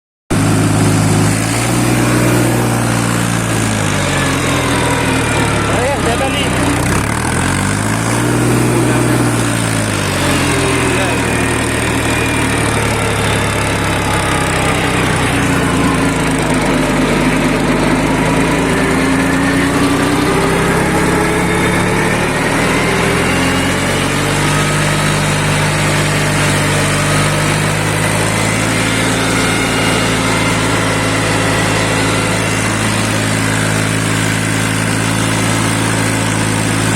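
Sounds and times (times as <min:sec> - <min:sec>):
tractor diesel engine running: 0:00.3 - 0:36.9.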